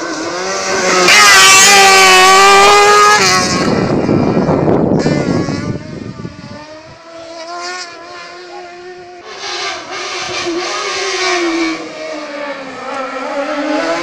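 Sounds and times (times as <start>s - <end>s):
buggy engine revving high: 0.0s - 14.0s.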